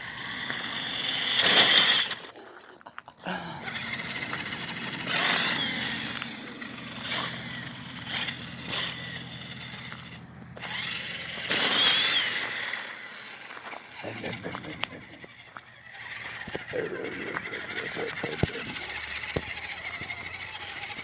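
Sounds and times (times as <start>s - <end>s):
electric motor and gears whining: 0.0s - 2.4s, 3.3s - 21.0s.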